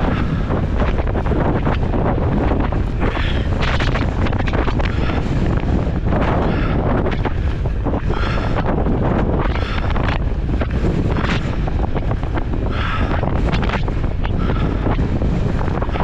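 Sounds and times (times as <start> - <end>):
bike clicks and rattles: 0.0 - 16.0
wind buffeting microphone: 0.0 - 16.0.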